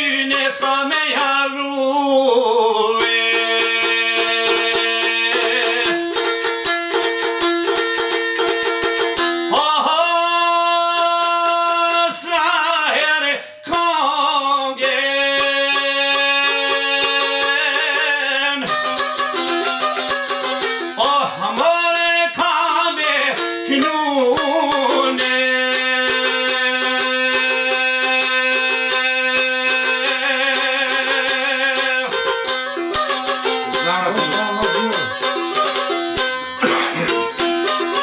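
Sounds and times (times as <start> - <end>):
man singing: 0.0 - 6.6, 9.5 - 19.6, 20.4 - 35.8
plucked long-necked lute: 0.0 - 12.3, 14.8 - 38.0.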